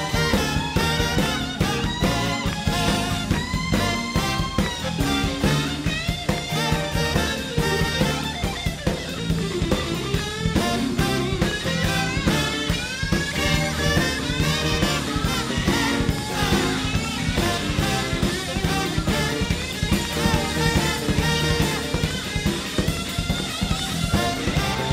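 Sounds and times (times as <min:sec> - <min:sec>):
drum kit groove: 0:00.0 - 0:24.9
electric guitar: 0:00.0 - 0:24.9
tenor saxophone: 0:00.0 - 0:24.9.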